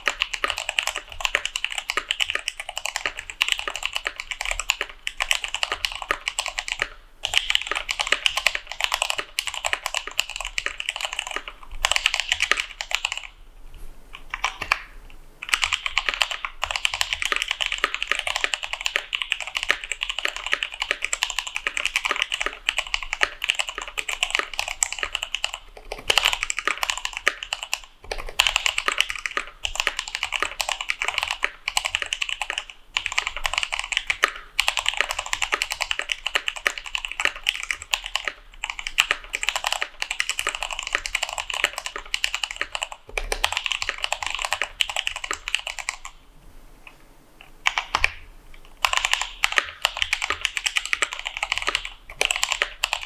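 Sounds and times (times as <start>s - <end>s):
typing on mechanical keyboard: 0.0s - 13.4s, 14.1s - 46.2s, 47.6s - 53.0s.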